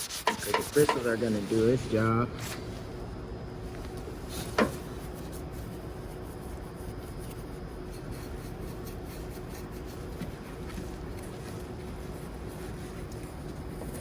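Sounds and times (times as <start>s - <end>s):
paintbrush scrubbing engine parts: 0.0s - 2.7s, 4.2s - 14.0s
faint steady hum: 0.0s - 14.0s.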